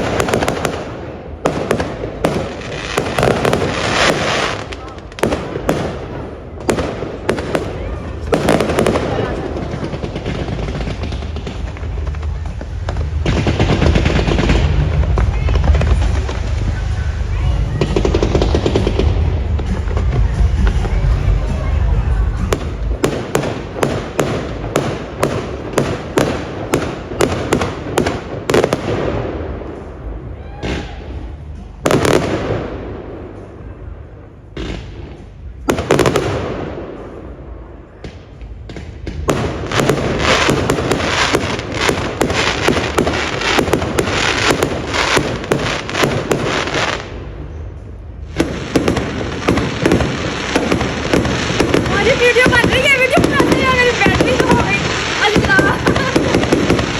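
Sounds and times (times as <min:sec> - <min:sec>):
fireworks crackling: 0:00.0 - 0:56.9
fireworks cracks and bangs: 0:00.0 - 0:56.9.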